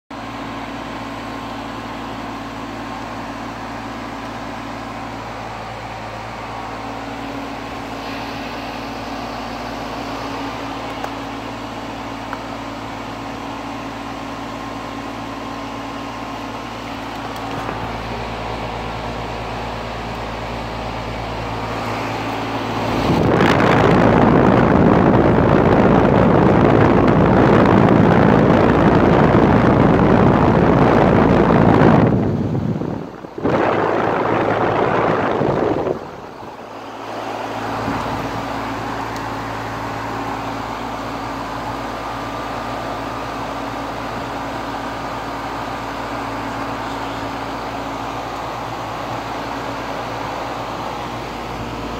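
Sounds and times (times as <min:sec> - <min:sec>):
fan air rushing across microphone: 0:00.1 - 0:51.9
heat pump humming: 0:00.1 - 0:51.9.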